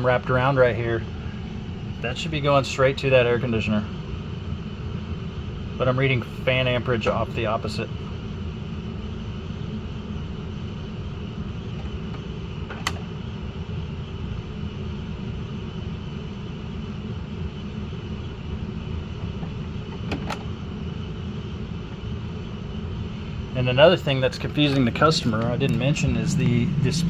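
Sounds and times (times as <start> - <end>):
air conditioner fans humming: 0.0 - 27.0.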